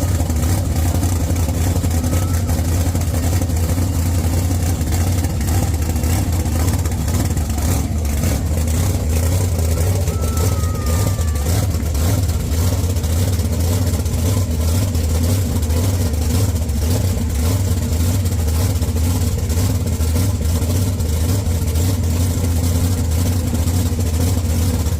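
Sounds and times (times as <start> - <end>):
supercharged engine idling loudly: 0.0 - 24.9.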